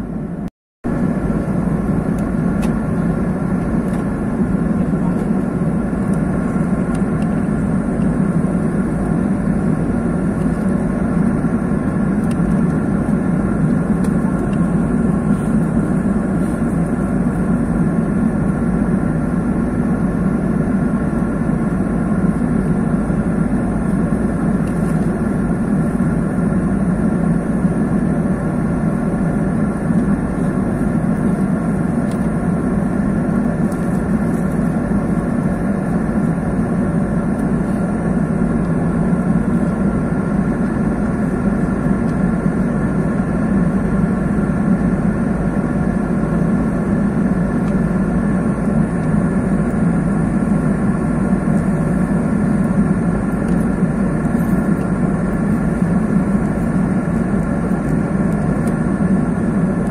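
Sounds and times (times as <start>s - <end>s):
faint steady whining tones: 0.0s - 59.9s
jet engine drone: 0.0s - 59.9s.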